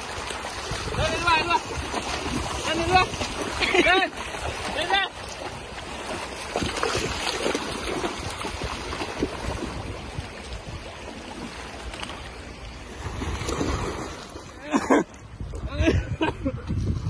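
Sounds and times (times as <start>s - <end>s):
dog splashing through water: 0.0s - 12.3s, 13.0s - 14.4s
river water flowing: 0.0s - 15.7s.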